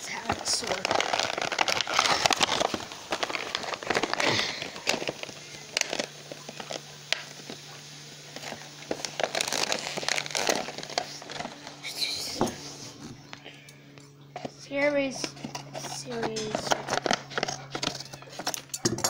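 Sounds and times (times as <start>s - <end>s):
plastic packaging crinkling: 0.0s - 11.9s, 15.2s - 19.0s.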